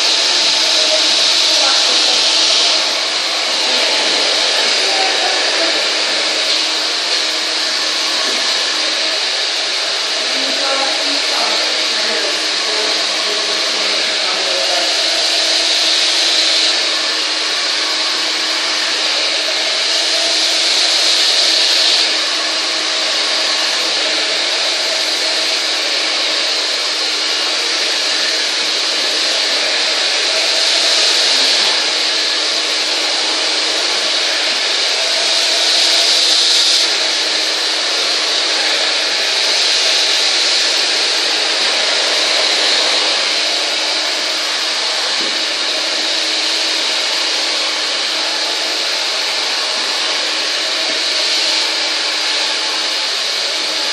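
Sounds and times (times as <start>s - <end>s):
hair dryer running: 0.0s - 53.9s.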